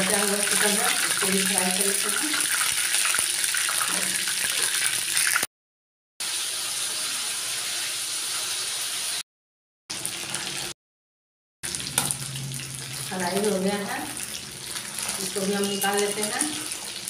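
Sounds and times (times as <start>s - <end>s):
chicken sizzling in oil: 0.0s - 5.5s, 6.2s - 9.2s, 9.9s - 10.8s, 11.6s - 17.0s.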